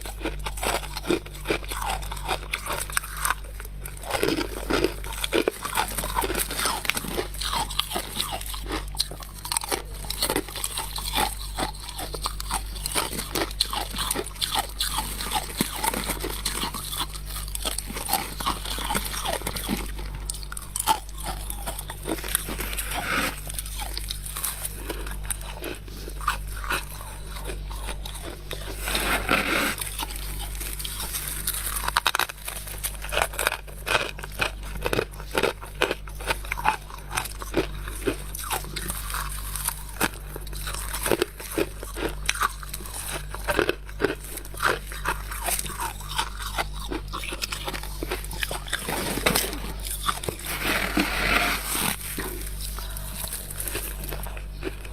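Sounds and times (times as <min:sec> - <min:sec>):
frost crunching while chewed: 0:00.0 - 0:54.9.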